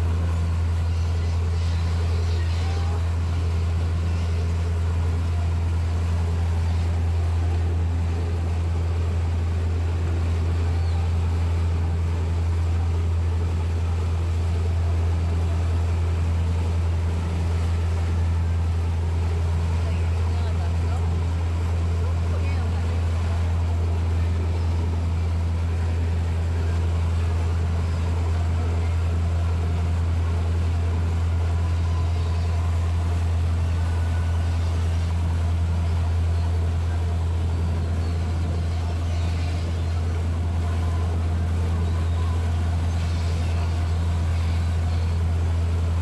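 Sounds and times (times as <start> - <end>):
boat engine drone: 0.0 - 46.0
water churning in wake: 0.0 - 46.0.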